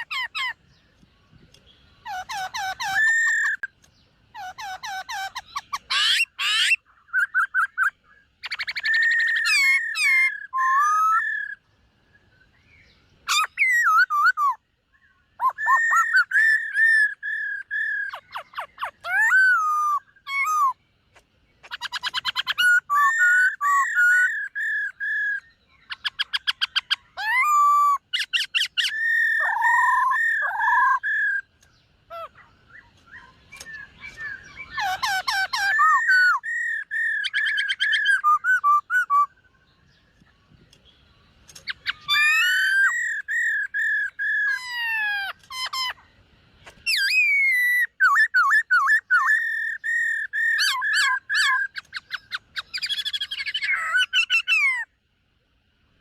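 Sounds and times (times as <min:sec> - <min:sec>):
bird singing whistled phrases: 0:01.8 - 0:03.7, 0:04.4 - 0:11.6, 0:12.2 - 0:20.8, 0:21.6 - 0:31.5, 0:32.1 - 0:39.9, 0:41.6 - 0:46.0, 0:46.7 - 0:54.9.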